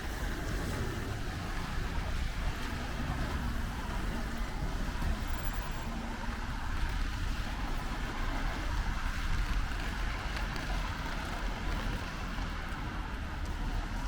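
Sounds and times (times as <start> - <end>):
low rumble of passing traffic: 0.0 - 14.0
rain on a street: 0.0 - 14.0.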